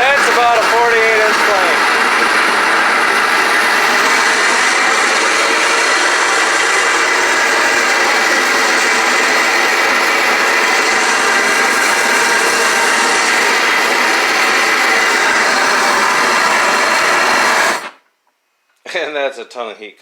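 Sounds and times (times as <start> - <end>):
forge burner roaring: 0.0 - 18.0.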